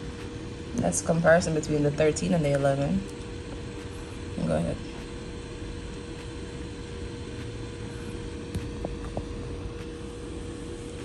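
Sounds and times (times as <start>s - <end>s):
faint constant tone: 0.0s - 11.0s
low background hum: 0.0s - 11.0s.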